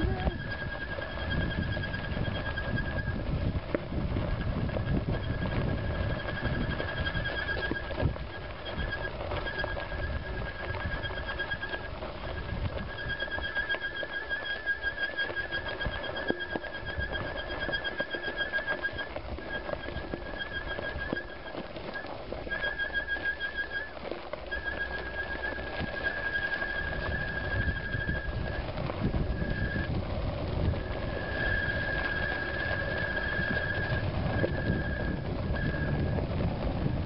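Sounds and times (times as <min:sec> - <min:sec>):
dirt bike engine whine: 0:00.0 - 0:37.0.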